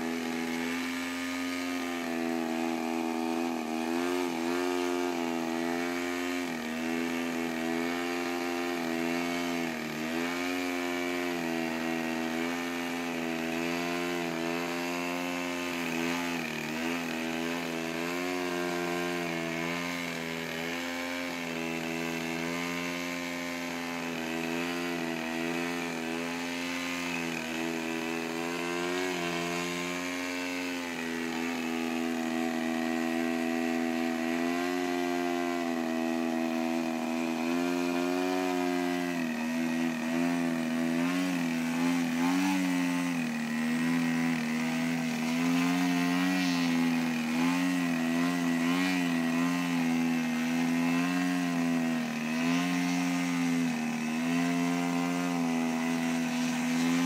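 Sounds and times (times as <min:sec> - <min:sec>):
model plane engine buzzing: 0:00.0 - 0:57.0.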